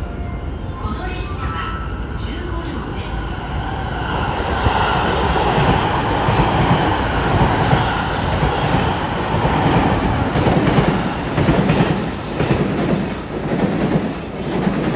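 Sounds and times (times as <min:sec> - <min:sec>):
train rolling past: 0:00.0 - 0:14.9.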